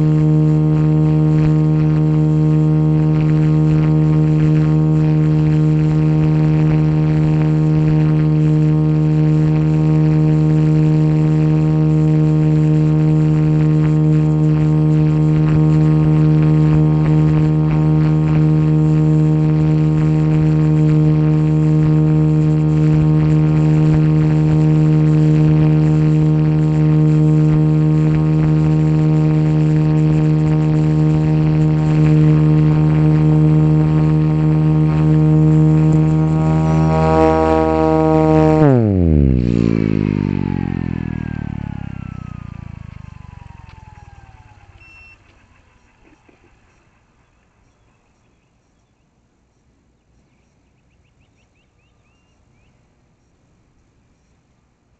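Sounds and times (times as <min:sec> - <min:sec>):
loud droning hum: 0:00.0 - 0:48.6
low rumble of noise: 0:00.0 - 0:48.7.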